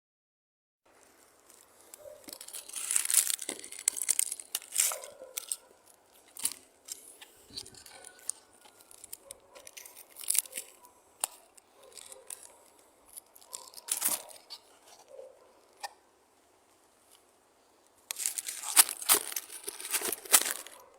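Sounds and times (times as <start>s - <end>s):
dry twigs and leaves crackling: 0.9s - 16.0s, 17.9s - 20.9s.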